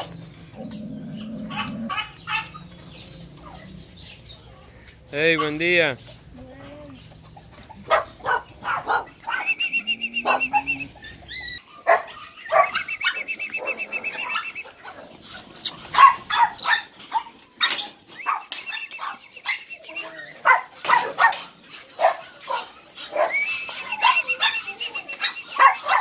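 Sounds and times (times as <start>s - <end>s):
dogs barking: 0.0s - 3.7s, 5.3s - 5.8s, 7.2s - 26.0s.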